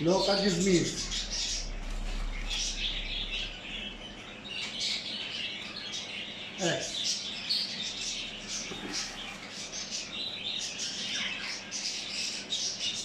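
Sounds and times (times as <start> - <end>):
birds chirping and twittering: 0.0 - 13.0.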